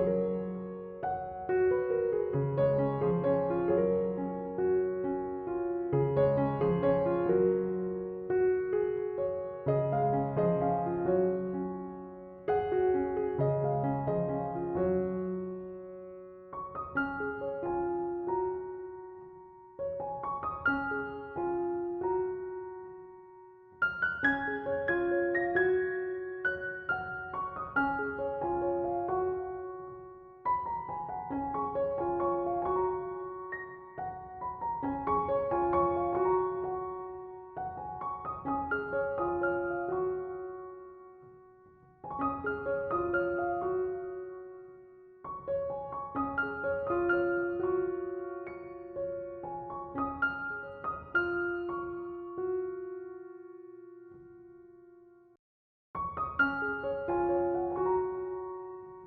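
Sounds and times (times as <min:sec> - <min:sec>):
gentle piano music: 0:00.0 - 0:55.4, 0:56.0 - 0:59.0.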